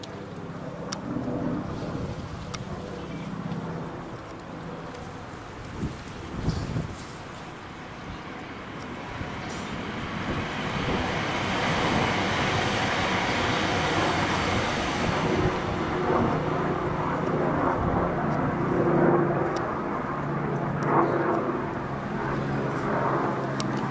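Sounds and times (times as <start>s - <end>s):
helicopter flying overhead: 0.0s - 23.9s.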